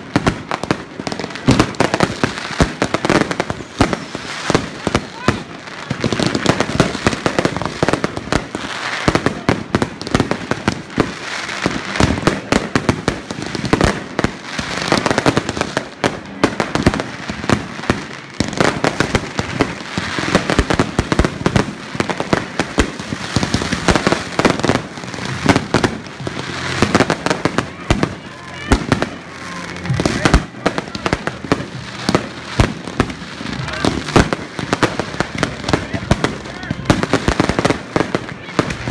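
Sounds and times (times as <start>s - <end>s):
firecrackers popping and banging: 0.0s - 38.9s.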